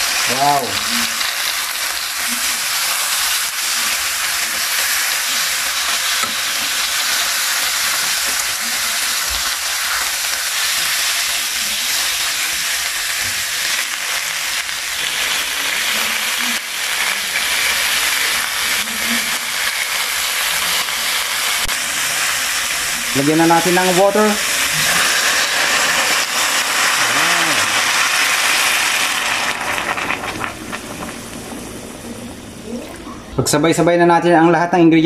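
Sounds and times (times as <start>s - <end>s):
fish sizzling in hot oil: 0.0s - 32.8s.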